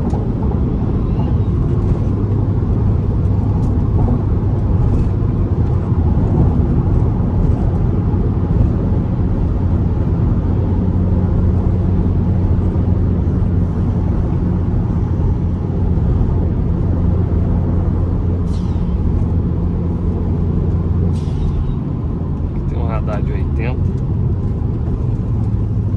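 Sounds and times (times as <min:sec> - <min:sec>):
car engine and road noise drone: 0:00.0 - 0:25.9.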